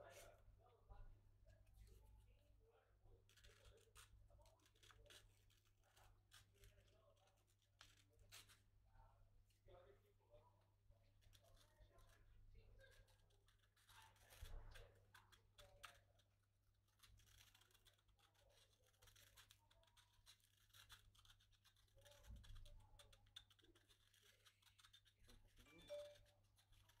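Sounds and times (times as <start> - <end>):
scratching and rubbing on gourd: 3.1 - 9.9, 11.0 - 27.0.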